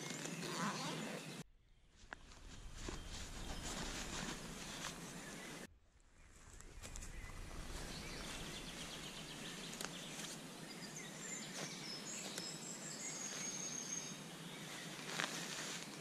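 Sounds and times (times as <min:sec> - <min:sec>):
background hiss: 0:02.0 - 0:16.0.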